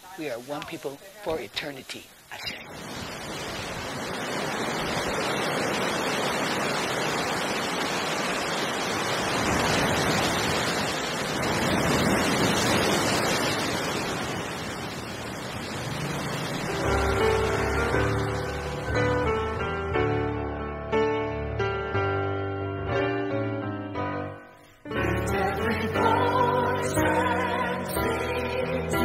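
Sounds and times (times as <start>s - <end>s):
sea waves surf: 0.0s - 21.4s, 24.4s - 29.0s.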